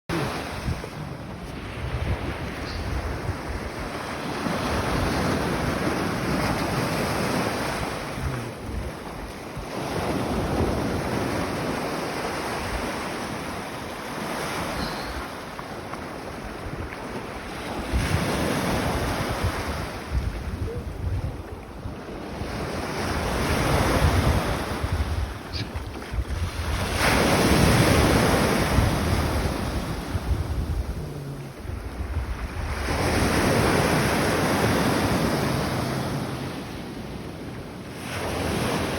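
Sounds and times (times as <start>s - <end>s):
waves breaking on shore: 0.1s - 38.9s
wind buffeting microphone: 0.4s - 35.3s.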